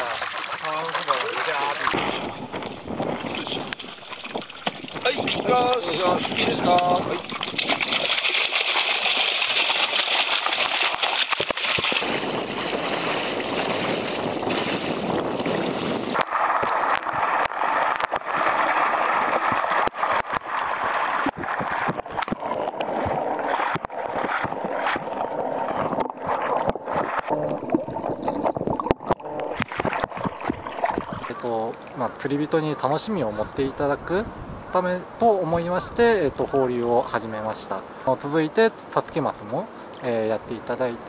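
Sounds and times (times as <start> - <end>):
water splashing and gurgling: 0.0 - 41.0.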